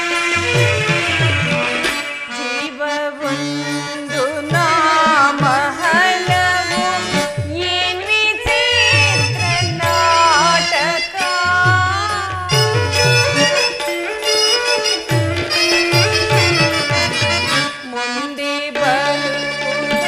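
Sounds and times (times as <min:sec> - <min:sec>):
keyboard: 0:00.0 - 0:20.0
tabla strokes: 0:00.0 - 0:20.0.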